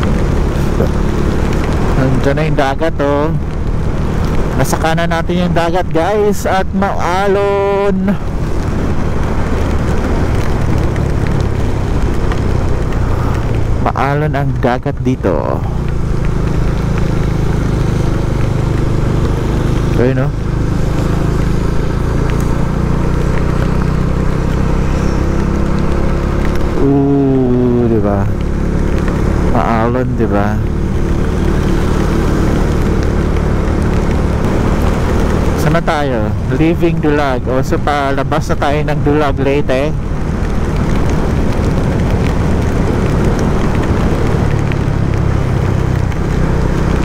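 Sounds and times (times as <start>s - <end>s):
motorcycle engine running: 0.0s - 47.0s
road and air noise: 0.0s - 47.0s.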